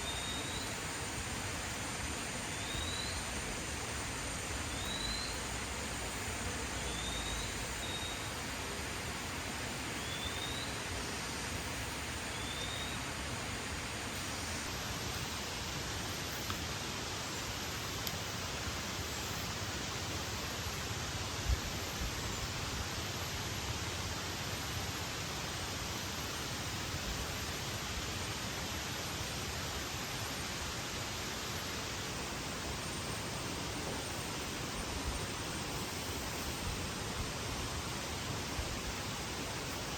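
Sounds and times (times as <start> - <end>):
water rushing: 0.0 - 21.9, 22.5 - 39.9.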